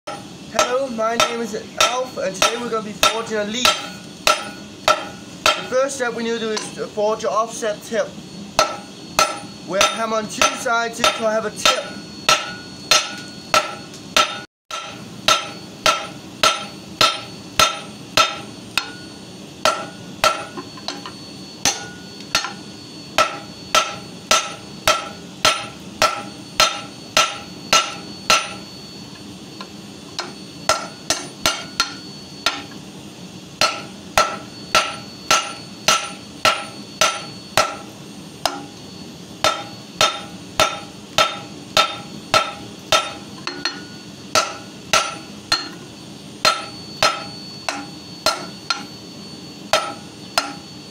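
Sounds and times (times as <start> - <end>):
hammer striking steel on anvil: 0.1 - 6.9, 8.6 - 28.9, 29.6 - 32.8, 33.6 - 38.8, 39.4 - 49.0, 49.7 - 50.7.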